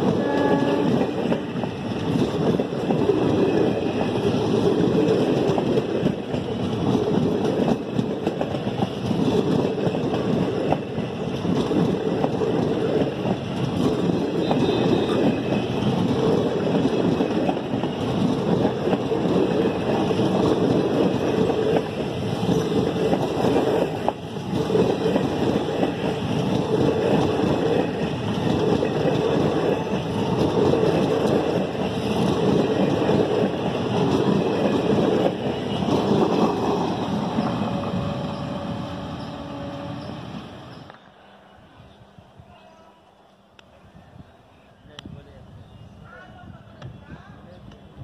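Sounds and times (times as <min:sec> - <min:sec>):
train wheels rumbling and rattling: 0:00.0 - 0:41.3.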